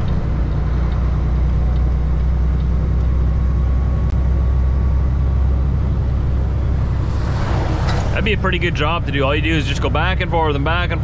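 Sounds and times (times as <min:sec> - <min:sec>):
road noise: 0:00.0 - 0:11.0
truck diesel engine drone: 0:00.0 - 0:11.0.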